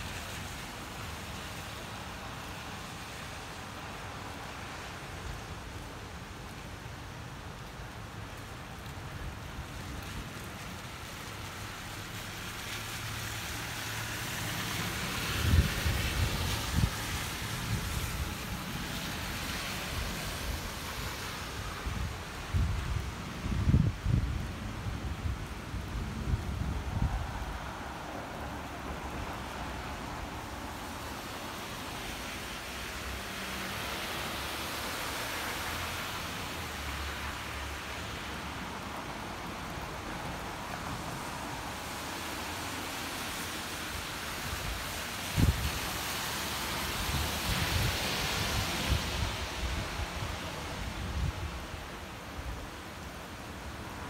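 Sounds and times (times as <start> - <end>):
car tyres hissing on wet road: 0.0 - 54.0
rain falling on street: 0.0 - 54.0.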